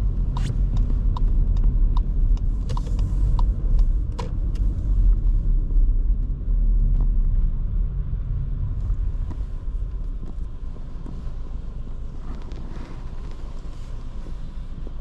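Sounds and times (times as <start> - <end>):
car engine rumble: 0.0 - 15.0
tyres on road: 0.0 - 15.0.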